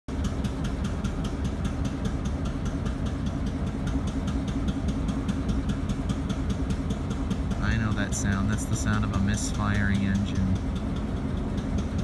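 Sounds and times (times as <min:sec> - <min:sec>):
diesel locomotive engine idling: 0:00.1 - 0:12.0
rapid regular ticking: 0:00.8 - 0:12.0.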